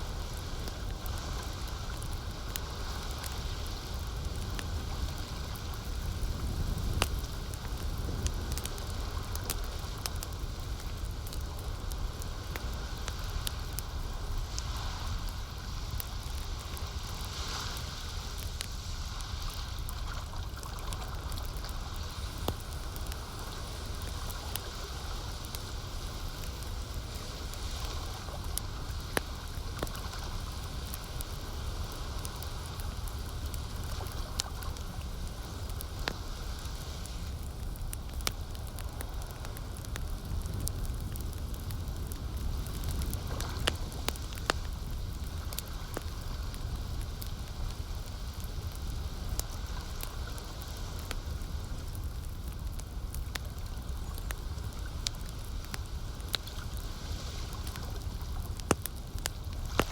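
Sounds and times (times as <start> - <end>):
campfire crackling: 0.0 - 59.9
burning wood popping: 0.2 - 18.7, 19.8 - 59.9.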